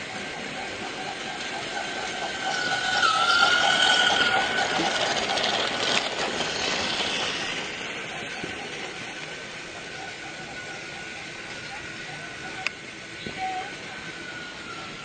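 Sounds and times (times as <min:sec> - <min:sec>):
thin high whine: 0:00.0 - 0:15.0
train running: 0:00.0 - 0:15.0.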